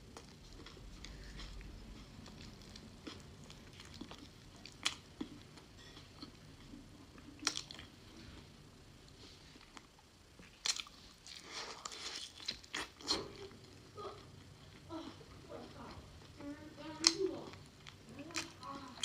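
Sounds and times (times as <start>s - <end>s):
person chewing food: 0.0s - 8.5s, 9.1s - 16.4s, 17.0s - 19.0s.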